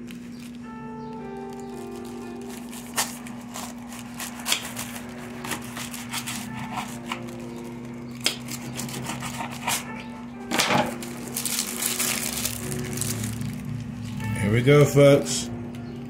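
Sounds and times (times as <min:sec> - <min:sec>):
paper rustling: 0:00.0 - 0:09.9, 0:10.5 - 0:14.2
faint background music: 0:00.0 - 0:16.0
steady low hum: 0:00.0 - 0:16.0.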